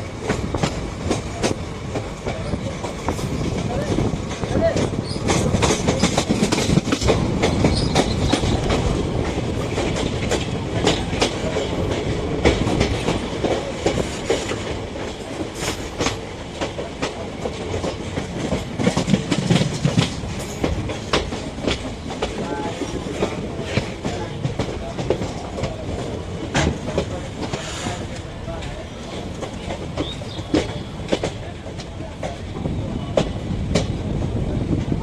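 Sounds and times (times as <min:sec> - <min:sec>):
passenger train rumble: 0:00.0 - 0:35.0
wheels clattering over rail joints: 0:00.2 - 0:32.4.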